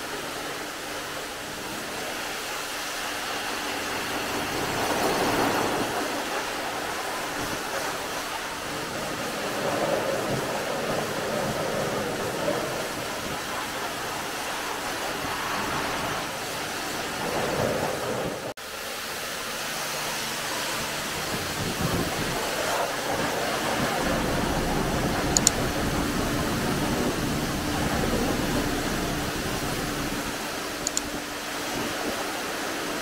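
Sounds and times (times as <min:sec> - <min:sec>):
water spraying: 0:00.0 - 0:33.0.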